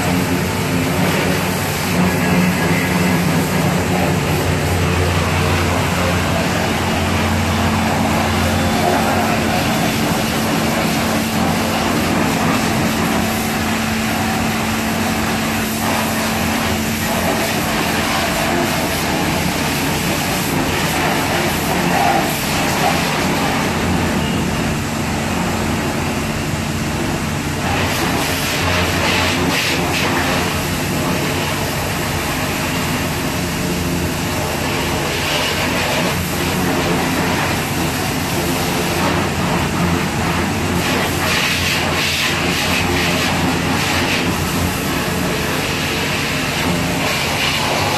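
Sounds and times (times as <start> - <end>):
water jet hissing: 0.0 - 26.2, 26.8 - 47.9
pressure washer pump humming: 0.0 - 47.9.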